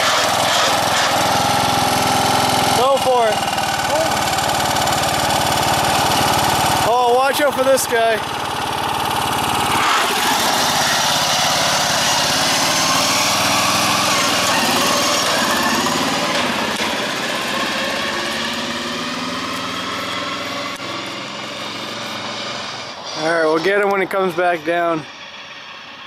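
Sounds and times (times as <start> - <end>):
lawn mower engine running hard: 0.0 - 26.0.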